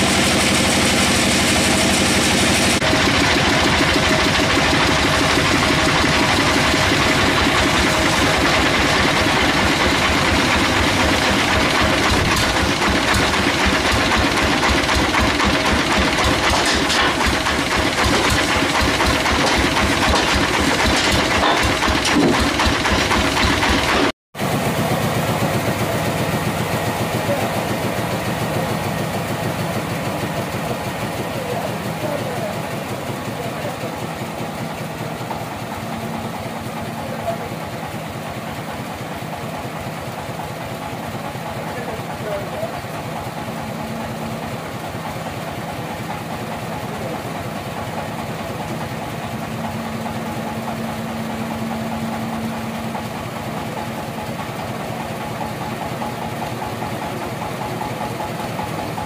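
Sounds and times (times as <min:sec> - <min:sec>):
sawmill engine knocking: 0:00.0 - 0:59.0.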